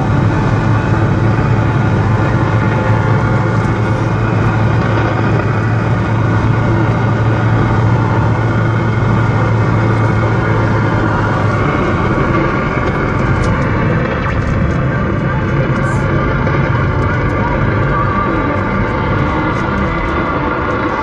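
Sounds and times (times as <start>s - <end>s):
car road noise: 0.0s - 21.0s
low hum: 0.0s - 21.0s
radio static hiss: 0.1s - 21.0s.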